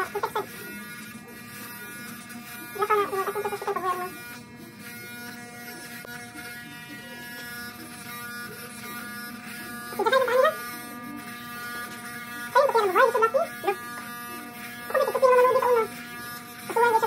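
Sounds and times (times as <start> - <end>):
electric hair clippers humming: 0.0 - 17.0.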